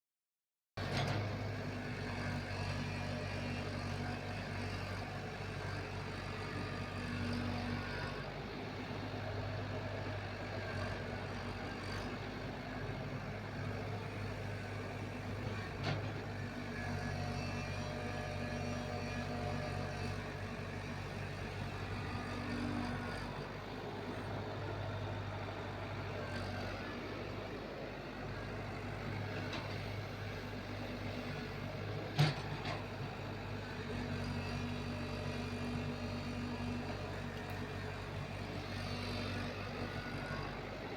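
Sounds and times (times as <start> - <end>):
excavator diesel engine running: 0.8 - 40.9.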